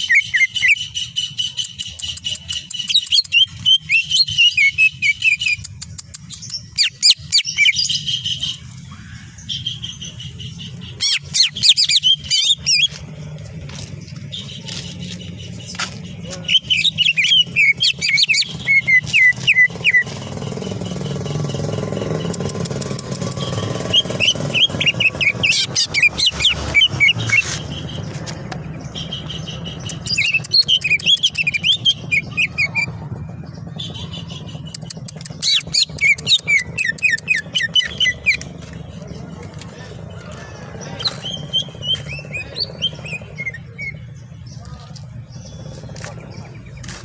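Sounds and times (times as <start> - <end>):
bird chirping rapidly: 0.0 - 47.0
broad rumbling noise: 8.0 - 47.0.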